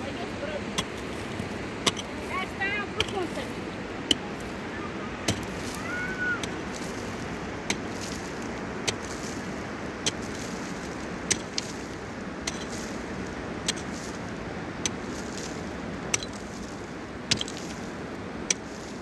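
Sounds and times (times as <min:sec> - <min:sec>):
mountain river rushing: 0:00.0 - 0:19.0.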